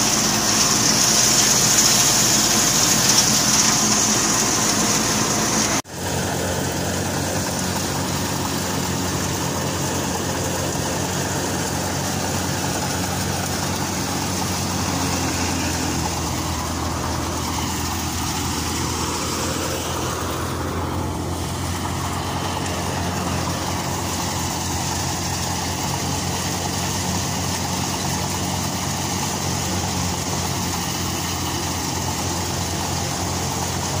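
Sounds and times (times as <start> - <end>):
threshing machine engine humming: 0.0 - 34.0.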